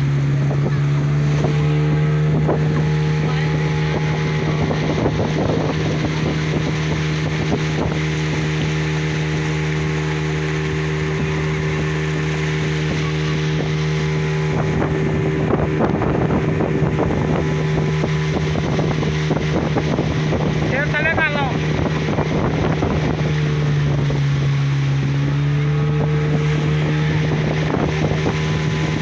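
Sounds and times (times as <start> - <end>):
motorboat engine running: 0.0 - 29.0
wind on microphone: 0.0 - 29.0.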